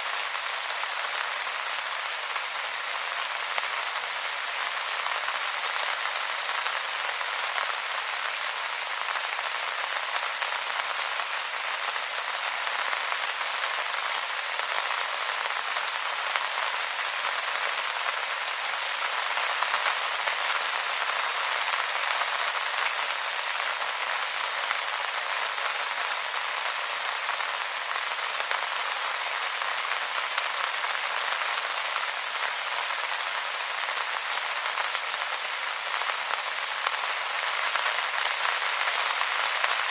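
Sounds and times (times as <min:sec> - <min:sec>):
rain falling on wet leaves: 0:00.0 - 0:39.9.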